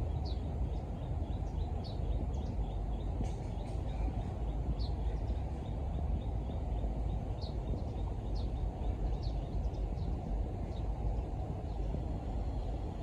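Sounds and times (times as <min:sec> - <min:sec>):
birds chirping: 0:00.0 - 0:13.0
low background rumble: 0:00.0 - 0:13.0.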